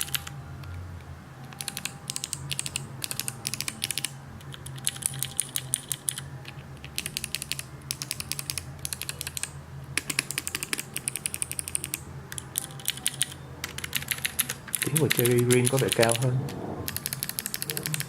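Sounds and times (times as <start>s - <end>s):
mechanical keyboard clicks: 0.0s - 0.8s, 1.5s - 16.2s, 16.9s - 18.0s.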